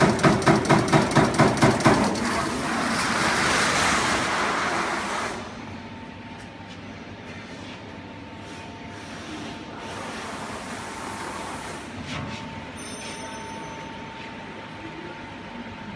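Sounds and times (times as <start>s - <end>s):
machine hum with whine: 0.0s - 15.9s.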